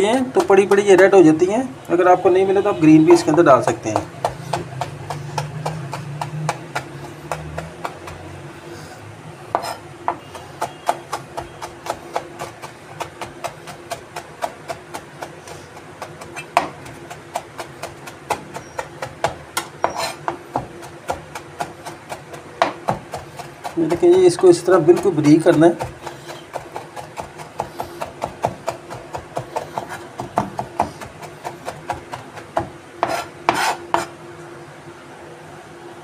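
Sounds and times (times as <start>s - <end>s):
knife chopping on cutting board: 0.0s - 1.1s, 3.2s - 8.4s, 9.5s - 34.1s.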